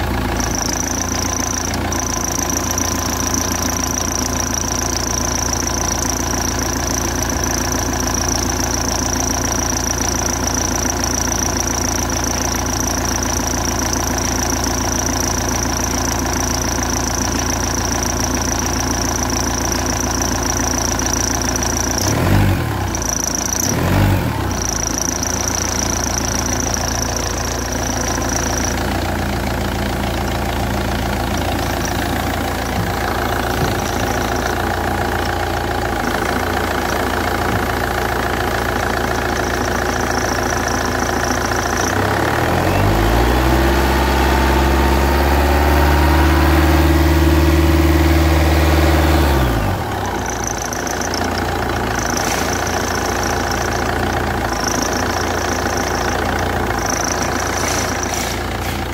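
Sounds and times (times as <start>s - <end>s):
car engine revving and idling: 0.0s - 58.9s.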